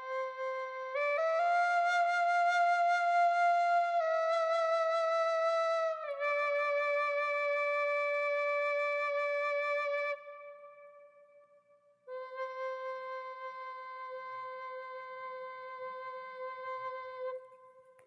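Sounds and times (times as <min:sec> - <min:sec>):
solo flute melody: 0:00.0 - 0:18.0.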